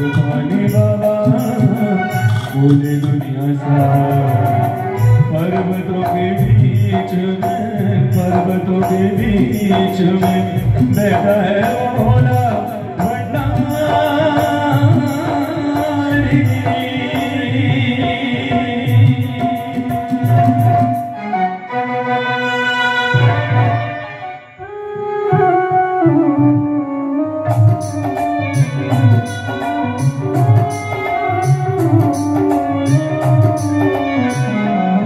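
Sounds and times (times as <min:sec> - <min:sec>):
bright fast percussion: 0:00.0 - 0:21.2, 0:27.5 - 0:34.6
hand drum steady beat: 0:00.0 - 0:21.2, 0:27.5 - 0:34.6
keyboard or vocal melody: 0:00.0 - 0:35.0.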